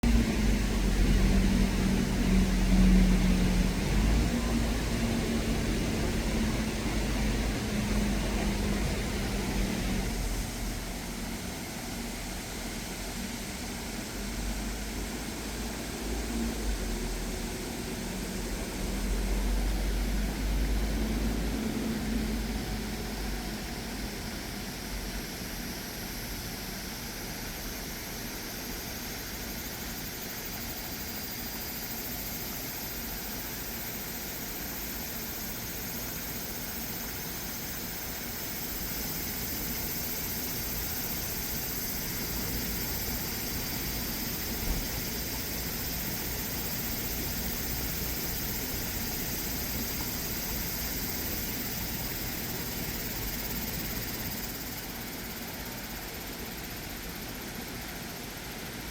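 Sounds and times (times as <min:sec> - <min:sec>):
high-pitched hiss: 0:00.0 - 0:58.9.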